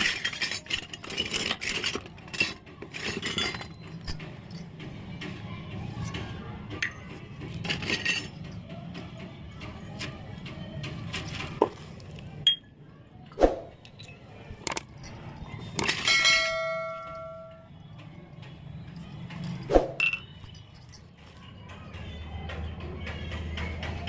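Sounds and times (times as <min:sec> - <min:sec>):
metal toy utensils clinking: 0:00.0 - 0:12.7, 0:13.6 - 0:21.8.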